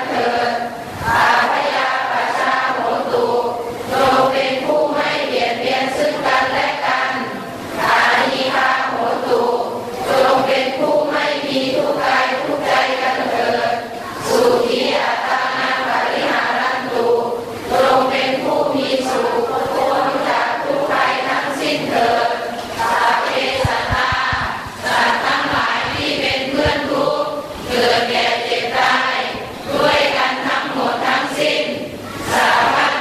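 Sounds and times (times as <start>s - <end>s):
congregation chanting in unison: 0.0s - 33.0s.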